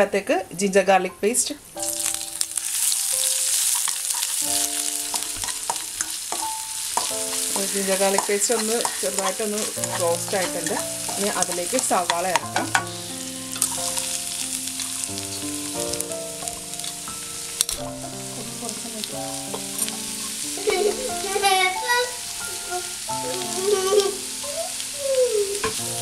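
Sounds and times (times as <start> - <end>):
onions sizzling in pan: 0.0 - 26.0
soft background music: 0.0 - 26.0.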